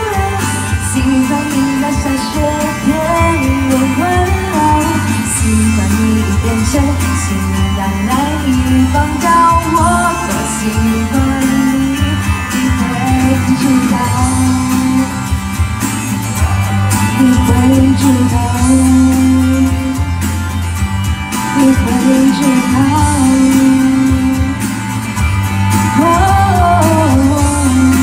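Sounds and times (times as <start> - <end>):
backing music with guitar: 0.0 - 28.0
woman singing pop song: 0.0 - 28.0.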